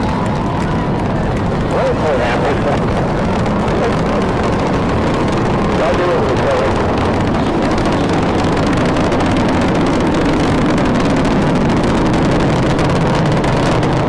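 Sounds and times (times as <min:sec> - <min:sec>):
rocket engines roaring: 0:00.0 - 0:14.0.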